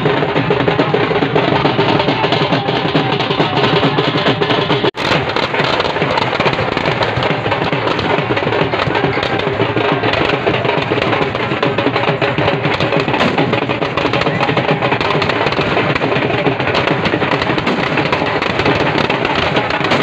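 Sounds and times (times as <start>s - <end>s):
firecrackers crackling and popping: 0.0s - 20.0s
loud dense drumming: 0.0s - 20.0s.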